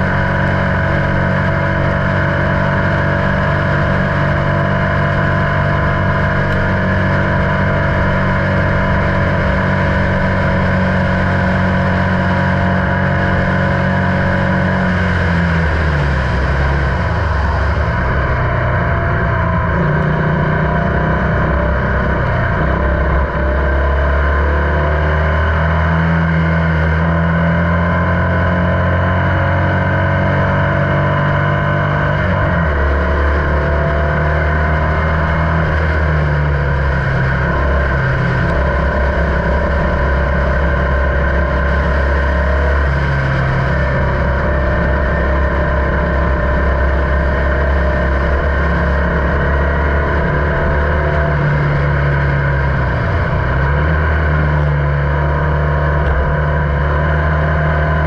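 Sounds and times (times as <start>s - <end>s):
racing car engine running hard: 0.0s - 58.0s.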